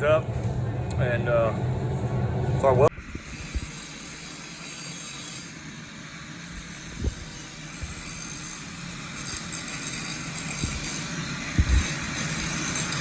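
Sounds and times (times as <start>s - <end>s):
angle grinder running: 0.0s - 13.0s.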